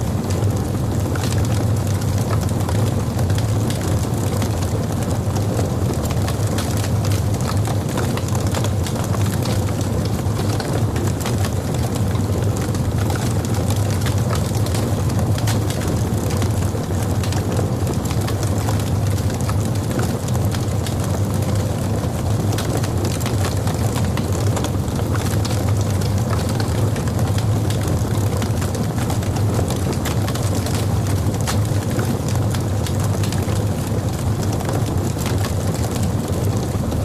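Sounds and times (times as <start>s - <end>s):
fire crackling and popping: 0.0s - 37.0s
fire flames rumbling: 0.0s - 37.0s.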